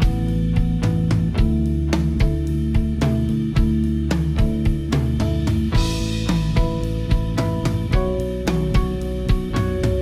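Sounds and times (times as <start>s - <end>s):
guitar over drum beat: 0.0s - 10.0s.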